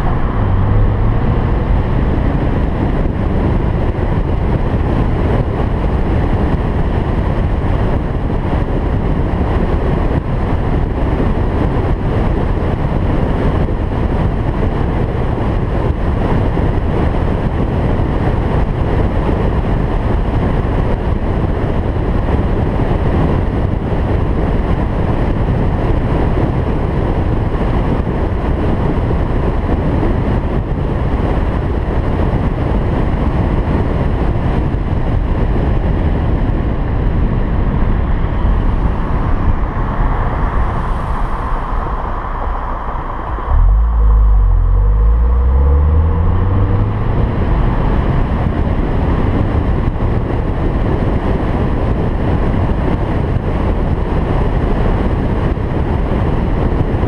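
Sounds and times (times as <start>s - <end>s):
car engine rumble accelerating: 0.0s - 57.0s
wind and road rush: 0.0s - 57.0s.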